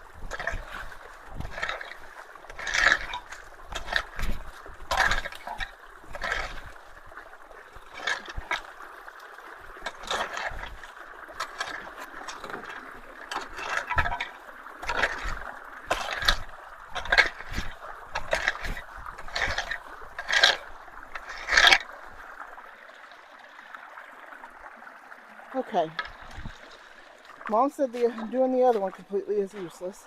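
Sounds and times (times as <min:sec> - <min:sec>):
splashes and knocks of debris: 0:00.0 - 0:22.7, 0:25.6 - 0:30.0
water running through a culvert: 0:00.0 - 0:30.0.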